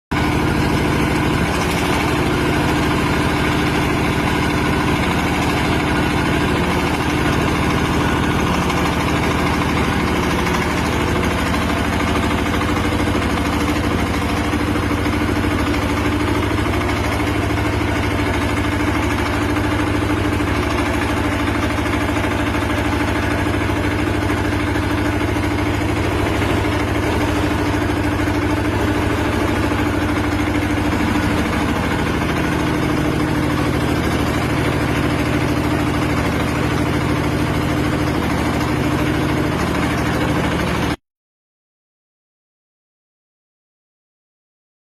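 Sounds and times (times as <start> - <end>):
concrete mixer engine droning: 0.1 - 41.0.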